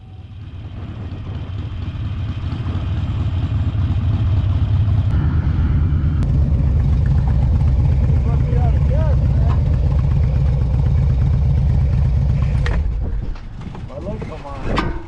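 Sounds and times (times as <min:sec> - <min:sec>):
motorcycle engine rumbling: 0:00.0 - 0:14.6.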